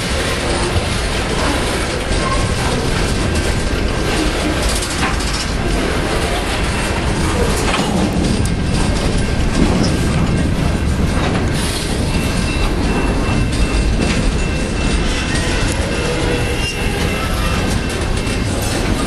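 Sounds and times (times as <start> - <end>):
clanks and clicks: 0.0 - 19.0
train wheels rumbling on rail: 0.0 - 19.0.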